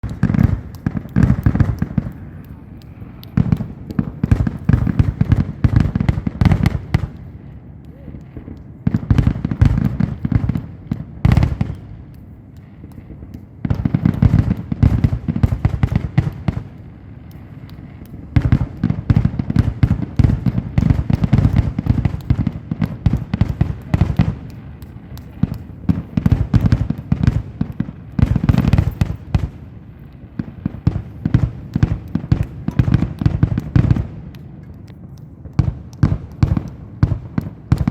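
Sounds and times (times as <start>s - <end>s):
fireworks crackling and popping: 0.0s - 37.9s.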